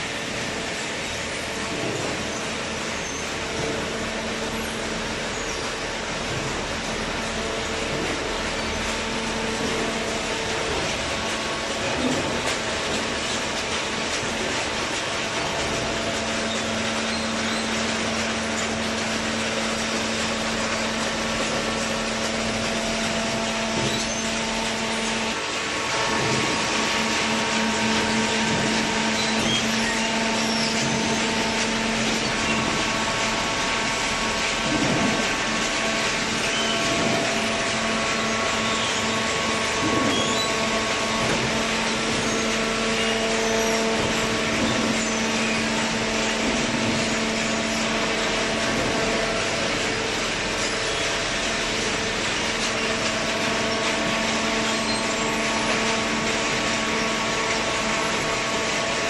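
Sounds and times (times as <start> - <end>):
baler machinery humming: 0.0 - 59.0.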